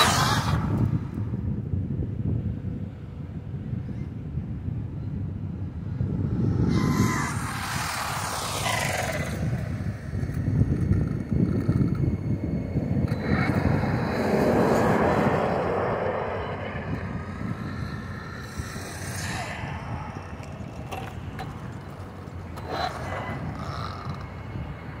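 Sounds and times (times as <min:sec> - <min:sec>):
rc car motor and tyre noise: 0:00.0 - 0:25.0.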